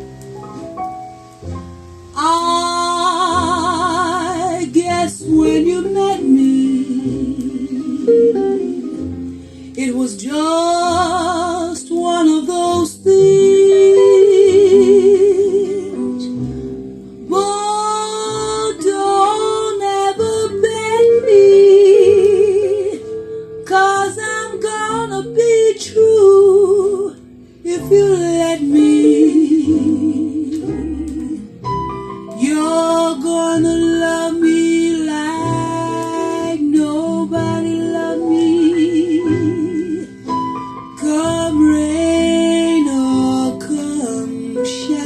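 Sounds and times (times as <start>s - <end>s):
instrumental accompaniment: 0.0s - 45.0s
woman singing jazz ballad: 1.9s - 45.0s.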